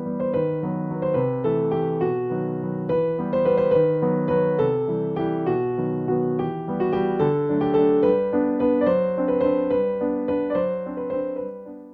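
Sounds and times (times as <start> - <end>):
gentle piano melody: 0.0 - 11.9.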